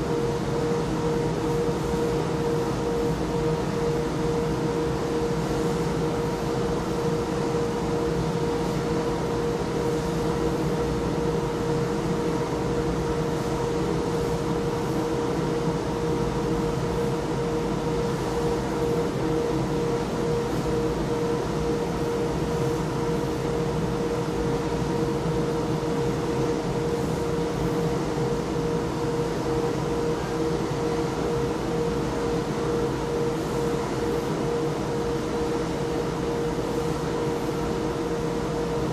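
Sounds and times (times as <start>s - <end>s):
mid-pitched mechanical whine: 0.0s - 38.9s.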